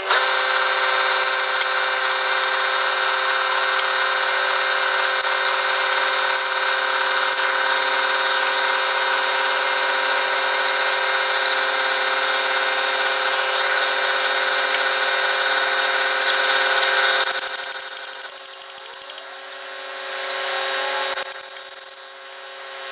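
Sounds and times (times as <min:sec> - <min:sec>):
electric motor whining: 0:00.0 - 0:22.8.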